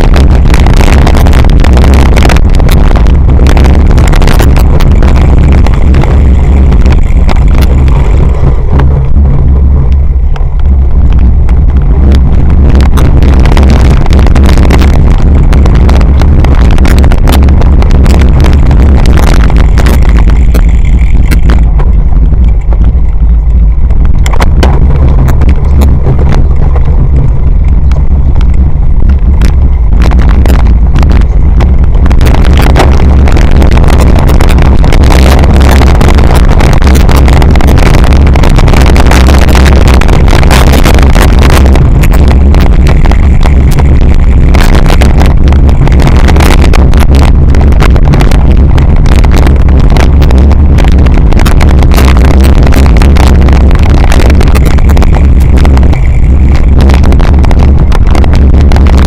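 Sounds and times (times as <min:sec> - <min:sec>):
wind buffeting: 0:00.0 - 0:59.0.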